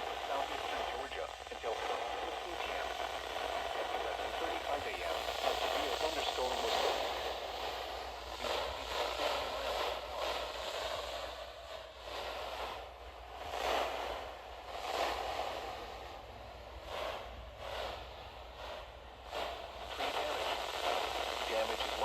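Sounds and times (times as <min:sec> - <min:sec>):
radio static hiss: 0:00.0 - 0:22.0
steady low hum: 0:00.0 - 0:22.0.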